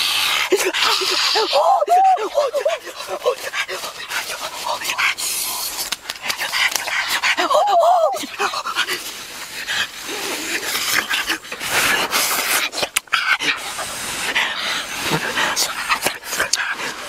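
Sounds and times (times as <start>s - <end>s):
boys sniffing and breathing hard: 0.0s - 17.0s.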